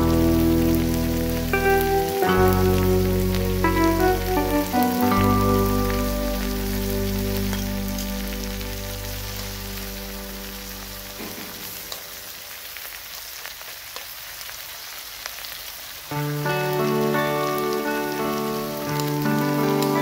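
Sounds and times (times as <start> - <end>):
background music: 0.0 - 12.3, 16.2 - 20.0
food sizzling in a wok: 0.0 - 20.0.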